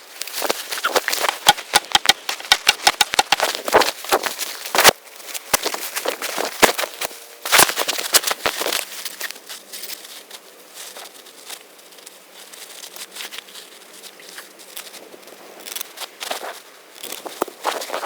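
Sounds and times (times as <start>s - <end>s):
leaves and twigs crackling: 0.0s - 18.0s.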